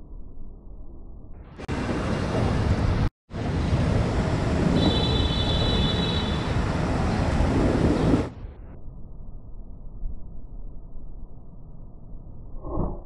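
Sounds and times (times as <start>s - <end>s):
outdoor rushing noise: 1.3s - 13.0s.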